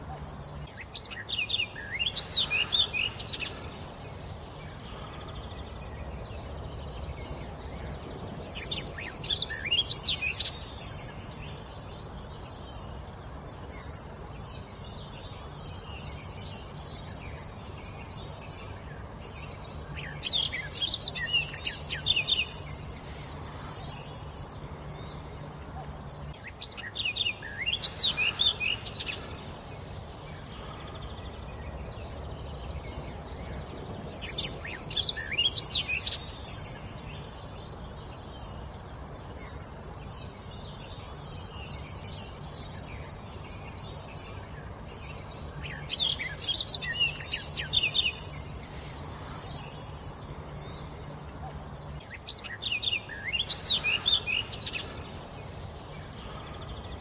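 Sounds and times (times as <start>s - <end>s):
low background hum: 0.0s - 57.0s
songbird singing: 0.0s - 57.0s.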